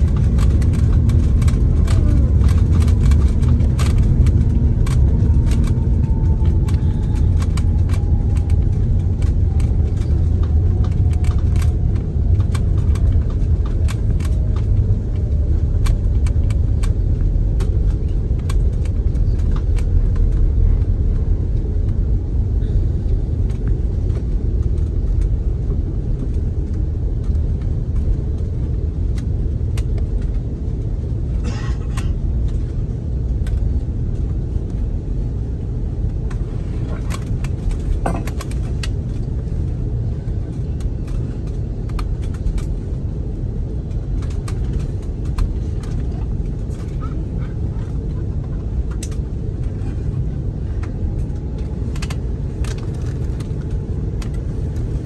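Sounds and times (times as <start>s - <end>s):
jet engine whine: 0.0s - 55.0s
rumble of wheels and engines: 0.0s - 55.0s.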